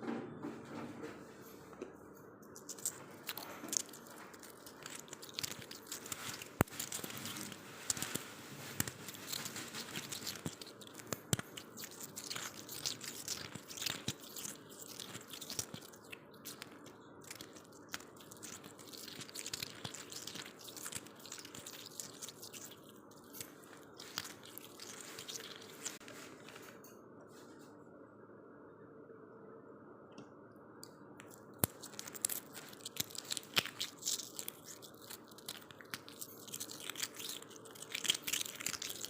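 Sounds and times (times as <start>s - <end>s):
chewing crunchy frost: 2.6s - 26.6s, 31.2s - 39.0s.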